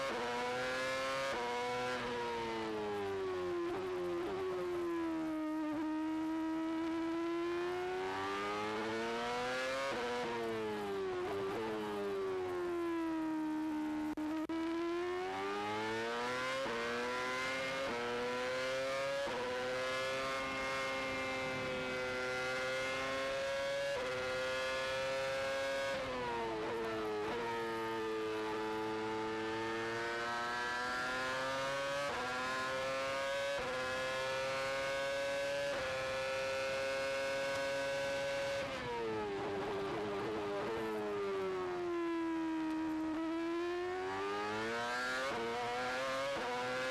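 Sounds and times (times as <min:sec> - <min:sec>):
racing car engine at high revs: 0:00.0 - 0:46.9.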